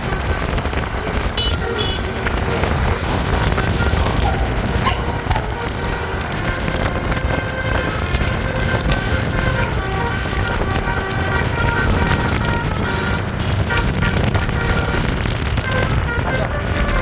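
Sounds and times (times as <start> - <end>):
bus air horn playing a tune: 0.0 - 17.0
engine and street rumble: 0.0 - 17.0.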